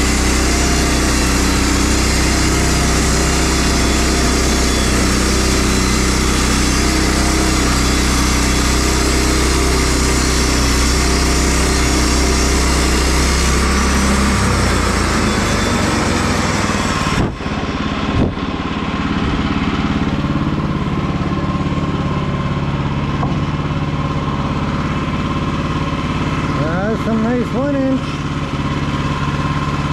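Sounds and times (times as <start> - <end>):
sawmill engine running: 0.0 - 29.9.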